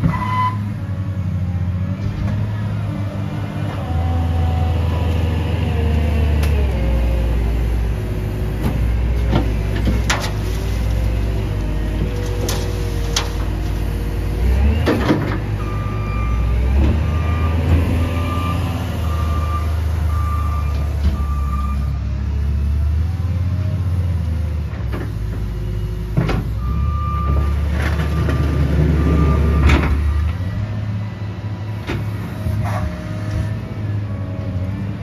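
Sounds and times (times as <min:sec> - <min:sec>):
diesel engine revving: 0:00.0 - 0:35.0.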